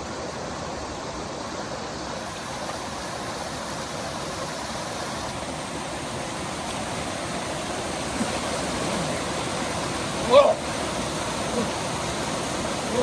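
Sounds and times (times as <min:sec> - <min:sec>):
rushing stream or waterfall: 0:00.0 - 0:13.0.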